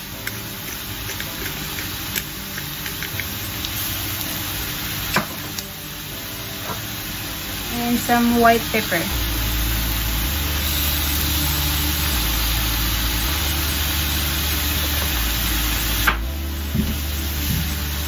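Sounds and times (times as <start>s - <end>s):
meat sizzling in a wok: 0.0s - 18.0s.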